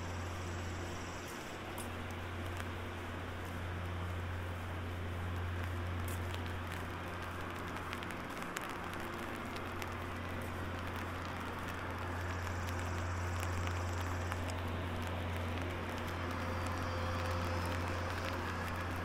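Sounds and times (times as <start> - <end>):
low hum: 0.0 - 19.0
rain pattering on umbrella: 0.0 - 19.0.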